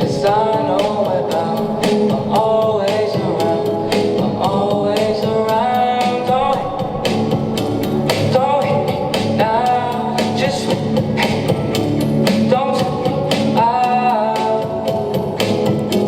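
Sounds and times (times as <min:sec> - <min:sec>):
drum and cymbal hits: 0:00.0 - 0:15.7
guitar: 0:00.0 - 0:16.0
person singing: 0:00.0 - 0:16.0.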